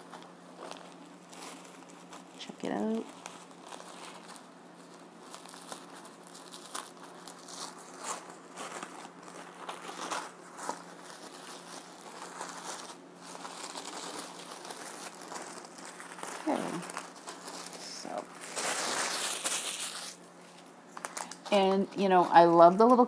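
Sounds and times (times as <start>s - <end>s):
plastic bag crinkling and tearing: 0.0s - 23.0s.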